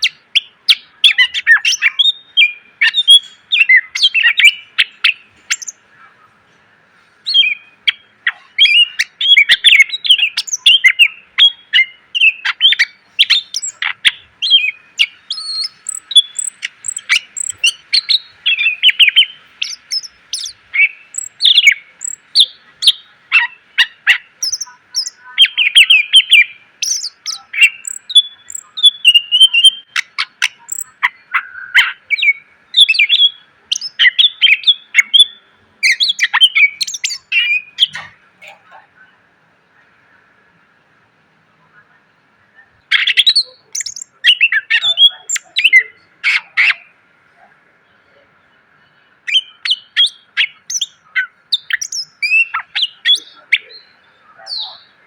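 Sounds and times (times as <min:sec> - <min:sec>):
bird singing rapid varied song: 0:00.0 - 0:38.3, 0:42.6 - 0:55.0.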